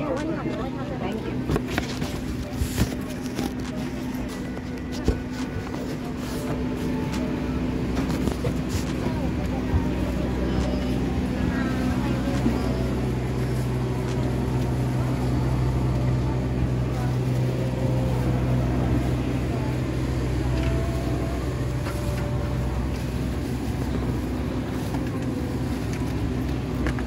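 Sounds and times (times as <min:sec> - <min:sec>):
cabin ventilation hum: 0:00.0 - 0:27.0
faint voices of passengers: 0:00.0 - 0:27.0.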